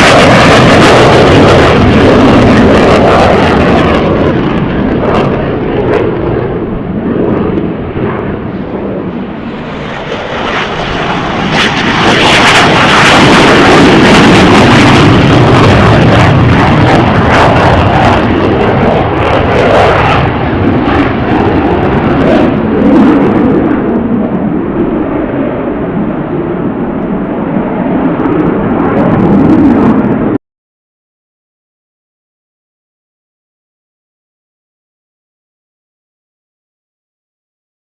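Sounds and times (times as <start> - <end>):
airplane engine passing: 0.0 - 30.4.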